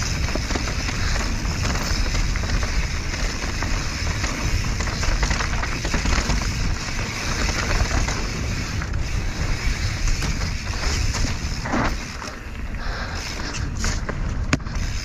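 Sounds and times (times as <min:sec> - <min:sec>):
bike chain rattling: 0:00.0 - 0:15.0
bike tyres rolling over dirt: 0:00.0 - 0:15.0
wind rumbling on microphone: 0:00.0 - 0:15.0.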